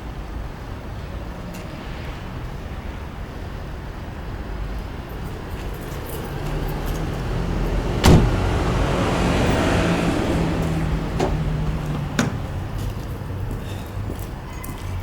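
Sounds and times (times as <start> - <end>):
outside noise: 0.0 - 15.0.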